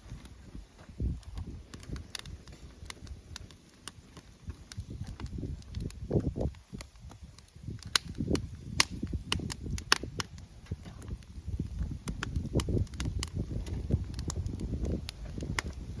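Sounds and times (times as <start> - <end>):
campfire crackling and popping: 0.0 - 16.0
low uneven rumble: 0.0 - 16.0.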